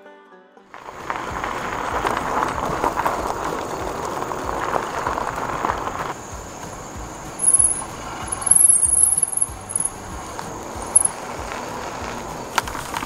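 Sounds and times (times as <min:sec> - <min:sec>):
dense crackling: 0:00.7 - 0:13.0
low thuds: 0:00.8 - 0:13.0.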